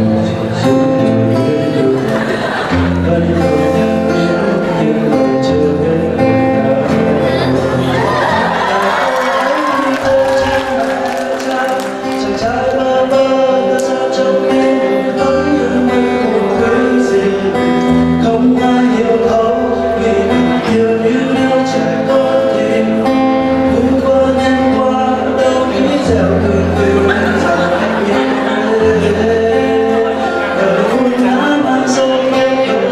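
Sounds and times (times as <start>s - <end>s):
acoustic guitar strumming: 0.0s - 32.9s
person singing: 0.0s - 32.9s.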